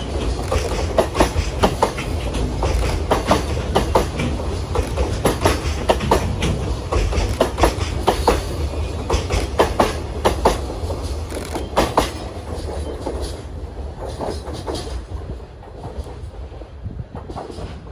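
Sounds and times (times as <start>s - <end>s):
train rumble: 0.0s - 17.9s
train wheels clacking: 0.0s - 17.9s.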